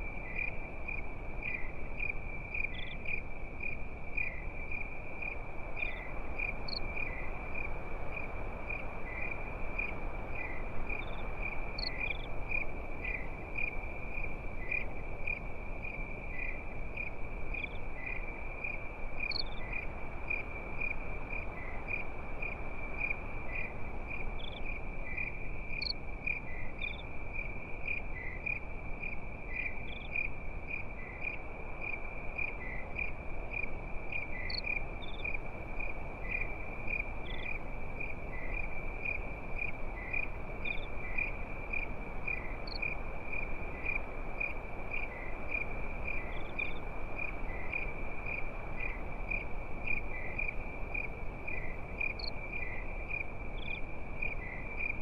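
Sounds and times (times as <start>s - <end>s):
crickets chirping: 0.0s - 55.0s
low background noise: 0.0s - 55.0s.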